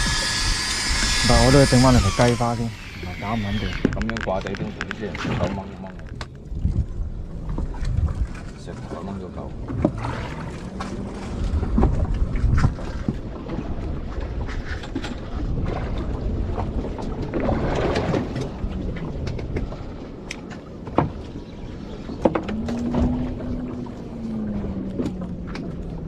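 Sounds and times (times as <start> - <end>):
boat engine running: 0.0 - 26.0
wind and water rumble: 0.0 - 26.0.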